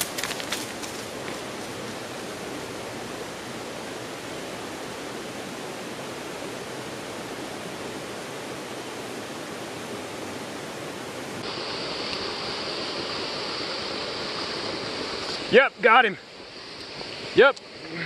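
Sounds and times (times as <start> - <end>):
rushing water with sharp hiss: 0.0 - 18.0
stream rushing over rocks: 0.0 - 18.0.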